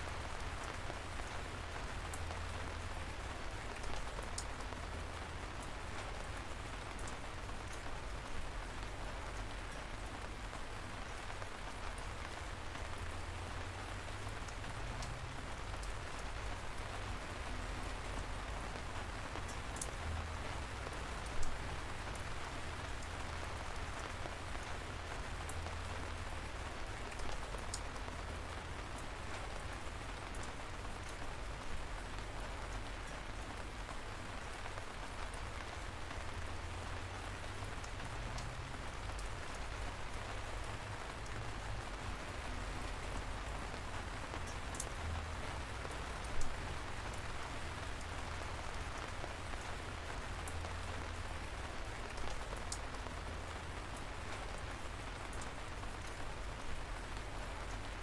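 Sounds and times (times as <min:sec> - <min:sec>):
light rain hissing: 0:00.0 - 0:58.0
raindrops ticking: 0:00.1 - 0:58.0.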